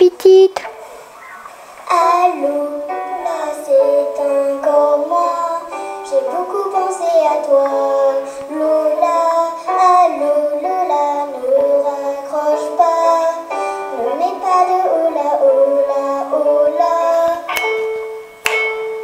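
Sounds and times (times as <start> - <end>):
girl singing into a microphone: 1.8 - 18.2.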